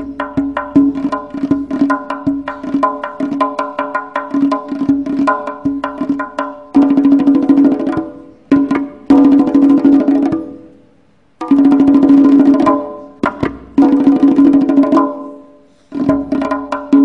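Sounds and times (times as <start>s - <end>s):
goblet drum strokes: 0.0s - 10.7s, 12.2s - 17.0s.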